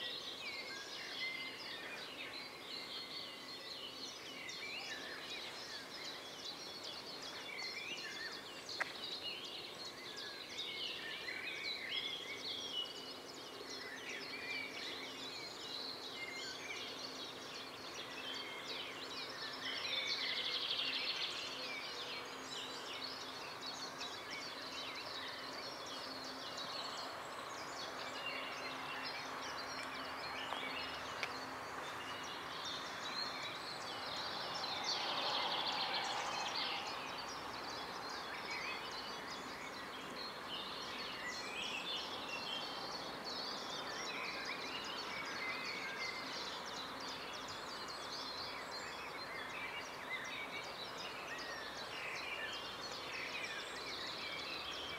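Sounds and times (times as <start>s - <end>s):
outdoor background noise: 0.0s - 54.9s
songbirds chirping and singing: 0.0s - 54.9s.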